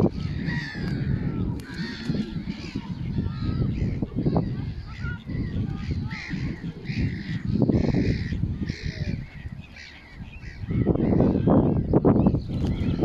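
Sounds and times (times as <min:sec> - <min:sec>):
harsh bird calls: 0:00.0 - 0:13.0
wind rumble on microphone: 0:00.0 - 0:13.0.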